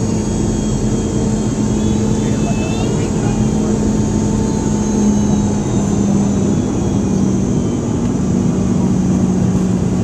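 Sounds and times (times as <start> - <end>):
jet engine drone in cabin: 0.0 - 10.0
low hum: 0.0 - 10.0.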